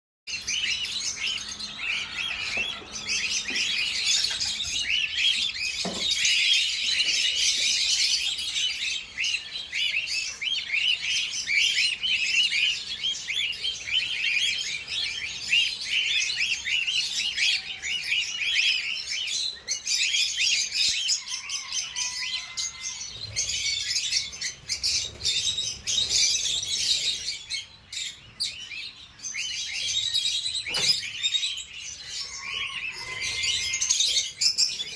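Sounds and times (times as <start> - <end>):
parrots chirping: 0.3 - 34.9.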